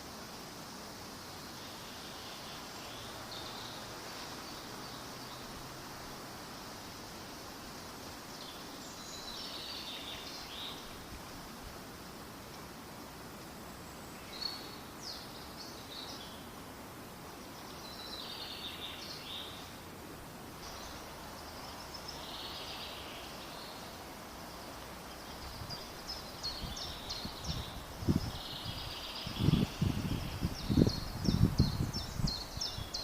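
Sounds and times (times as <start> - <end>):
steady background hiss: 0.0 - 33.0
small birds chirping: 1.2 - 11.3, 13.6 - 16.6, 17.2 - 19.8, 20.6 - 33.0.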